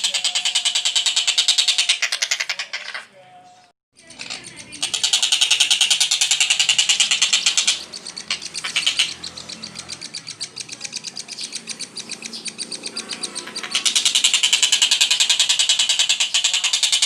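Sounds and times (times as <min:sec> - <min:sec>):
songbird chirping rapidly: 0:00.0 - 0:17.0.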